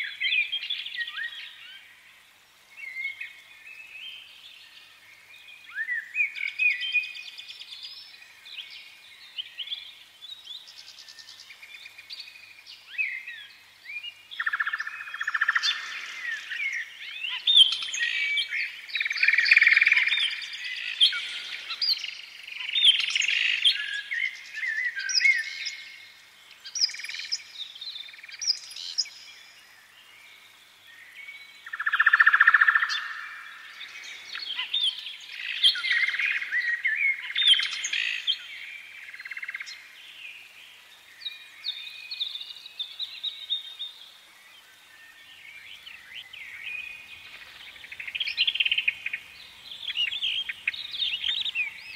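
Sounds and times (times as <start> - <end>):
small birds chirping and singing: 0.0 - 51.9.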